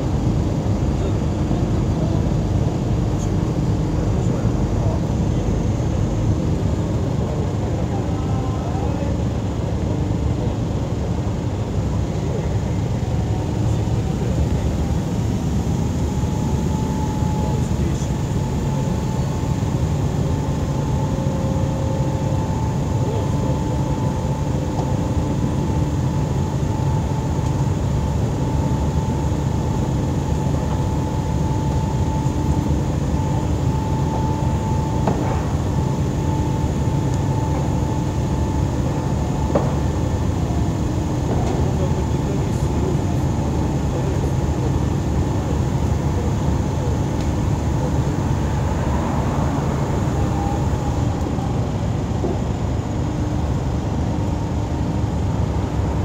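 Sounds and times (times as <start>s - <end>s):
heavy machinery engine drone: 0.0s - 56.0s
high-pitched whine: 0.0s - 56.0s.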